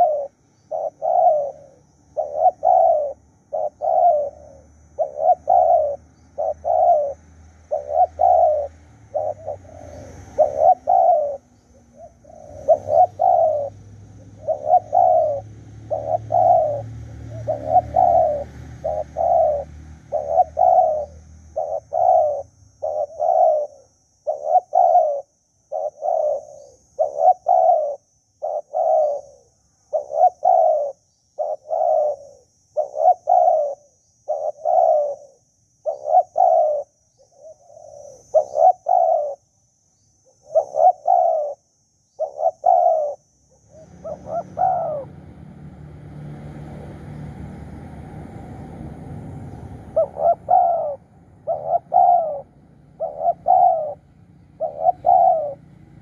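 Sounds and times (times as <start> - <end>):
dove cooing: 0.0 - 39.5, 40.2 - 56.0.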